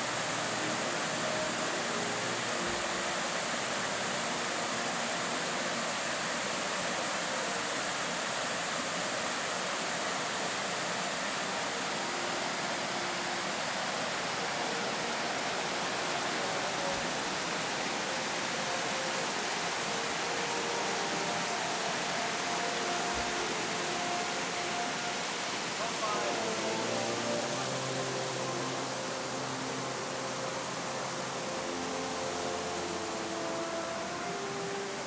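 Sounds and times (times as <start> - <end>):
rushing flowing water: 0.0 - 35.0.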